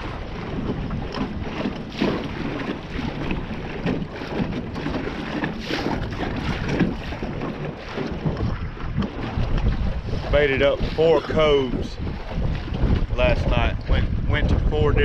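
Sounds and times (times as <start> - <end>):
boat motor running: 0.0 - 15.0
wind on microphone: 0.0 - 15.0.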